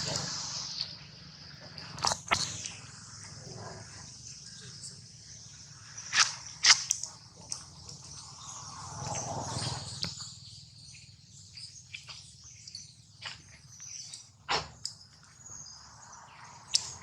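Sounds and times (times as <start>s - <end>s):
birds chirping: 2.1s - 17.0s.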